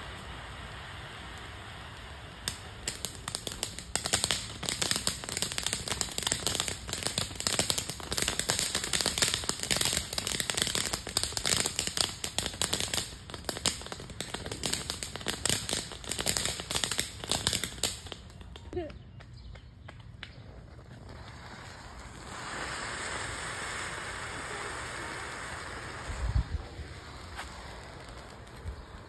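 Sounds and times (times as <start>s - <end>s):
firework crackling and hissing: 0.0s - 18.9s, 20.4s - 29.0s.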